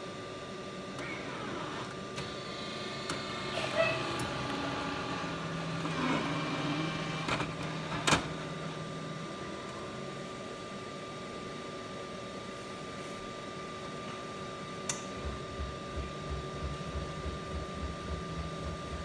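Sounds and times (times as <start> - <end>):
quiet steady whir: 0.0 - 12.9, 13.7 - 19.0
coffee machine hum: 0.0 - 19.0.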